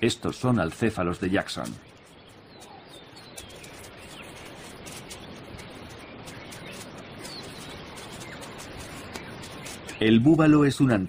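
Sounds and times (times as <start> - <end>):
faint bird chirps: 0.0 - 10.2
steady hiss: 0.0 - 11.0.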